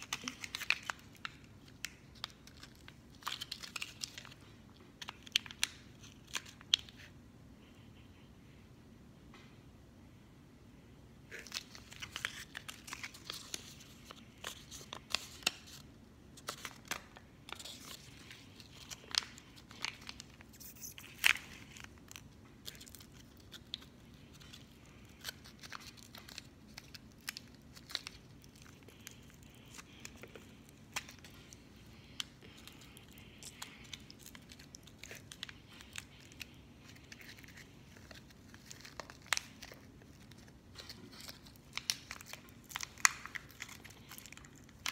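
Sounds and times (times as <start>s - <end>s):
wrapper crinkling and tearing: 0.0s - 7.1s, 11.3s - 44.9s.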